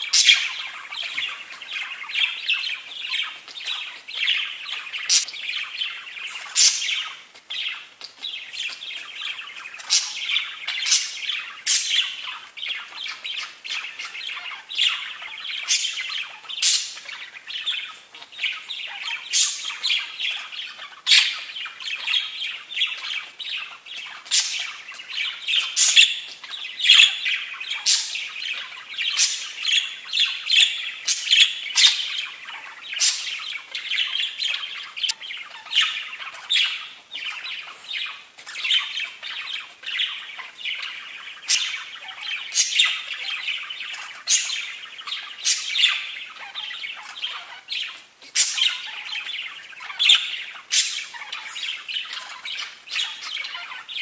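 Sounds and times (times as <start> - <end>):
budgerigars chattering: 0.0 - 54.0
sharp high chirps and squawks: 0.0 - 54.0.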